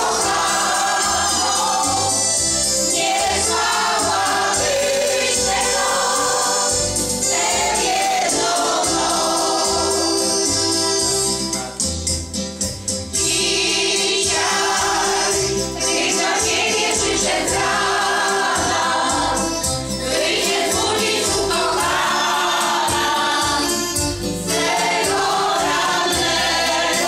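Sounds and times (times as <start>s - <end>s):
women's choir singing: 0.0s - 11.0s, 13.2s - 27.0s
keyboard accompaniment: 0.0s - 27.0s.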